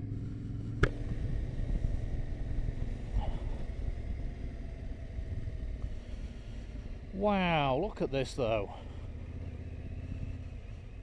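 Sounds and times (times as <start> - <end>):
motorcycle engine running: 0.0 - 11.0
wind and road rumble: 0.0 - 11.0.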